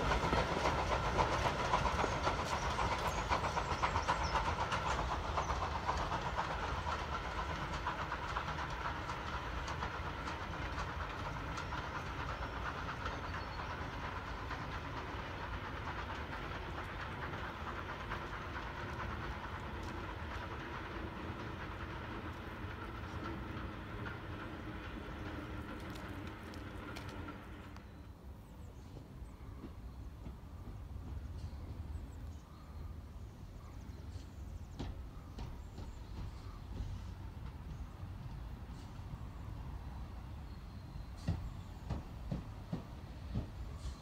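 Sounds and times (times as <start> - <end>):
steam train running: 0.0 - 44.0.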